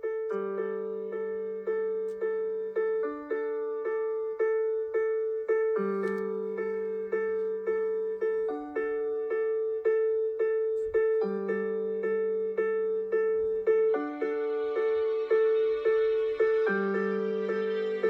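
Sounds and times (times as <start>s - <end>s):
electric piano ringtone melody: 0.0s - 18.0s.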